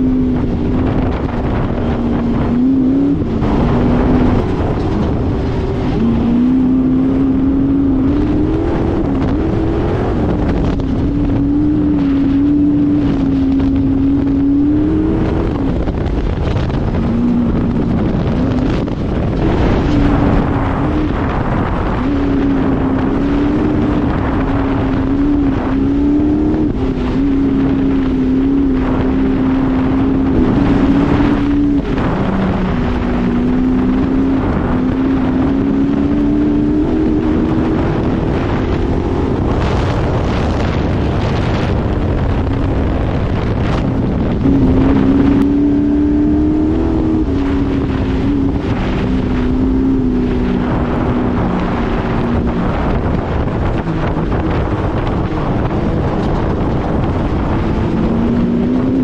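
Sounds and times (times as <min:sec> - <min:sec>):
vehicle engine running: 0:00.0 - 0:59.0
wind buffeting microphone: 0:00.0 - 0:59.0.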